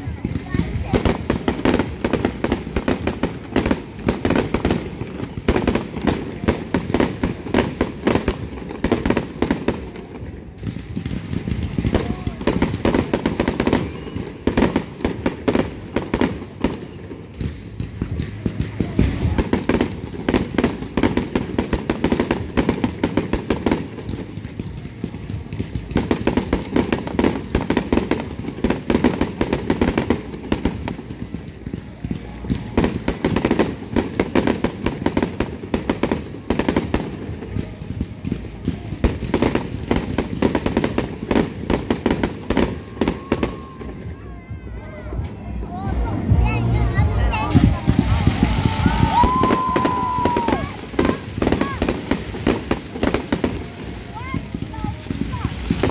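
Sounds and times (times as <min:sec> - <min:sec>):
fireworks bangs and crackles: 0:00.0 - 0:55.9.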